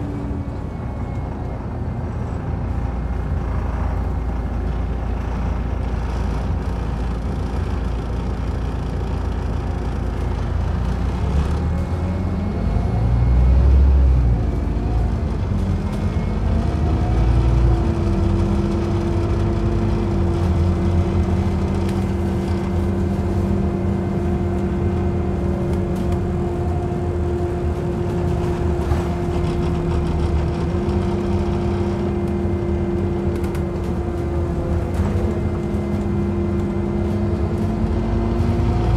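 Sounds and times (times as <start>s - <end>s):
bus engine pulling: 0.0s - 38.9s.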